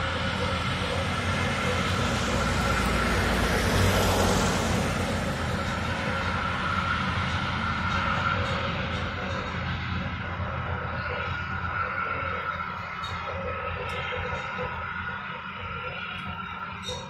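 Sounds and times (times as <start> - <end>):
power plant roar: 0.0 - 17.0.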